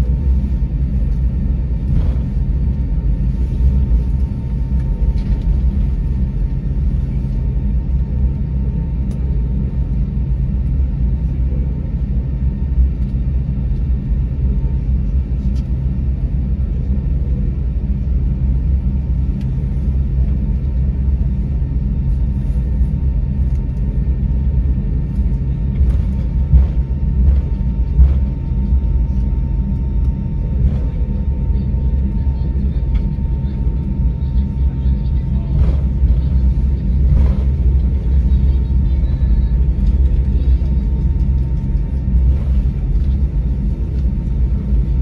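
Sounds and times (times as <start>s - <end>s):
faint steady whine: 0.0s - 45.0s
low rumble of jet engines: 0.0s - 45.0s.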